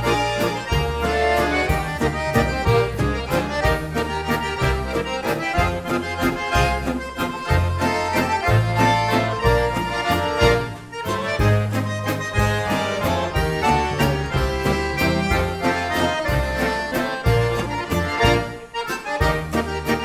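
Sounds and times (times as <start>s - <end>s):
drums: 0.0s - 10.6s, 11.3s - 18.5s
piano accordion melody: 0.0s - 20.0s
strummed guitar rhythm: 0.0s - 20.0s
upright bass: 0.0s - 20.0s.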